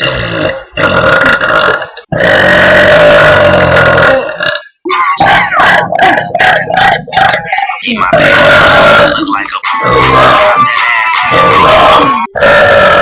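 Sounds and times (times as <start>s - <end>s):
woman belching loudly: 0.0s - 13.0s.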